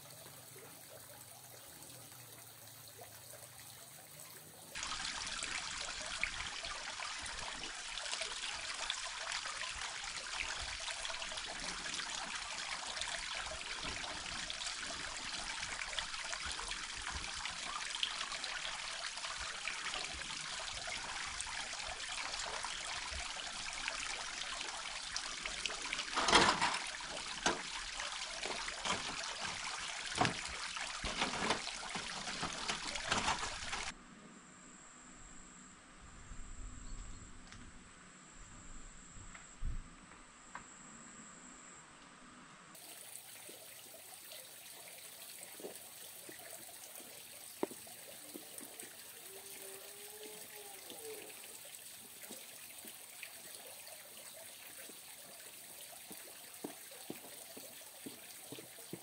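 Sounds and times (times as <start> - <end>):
water trickling: 0.0 - 34.0, 42.8 - 59.0.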